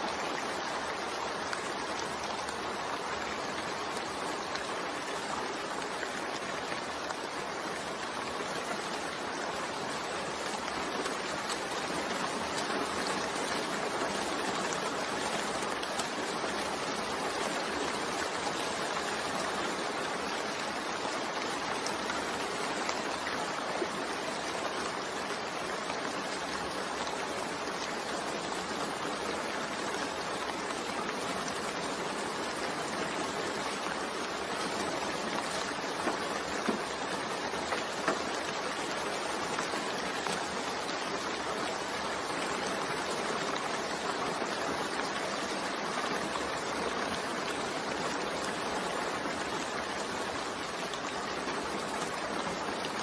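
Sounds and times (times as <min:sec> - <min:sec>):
steady rain hissing: 0:00.0 - 0:53.0.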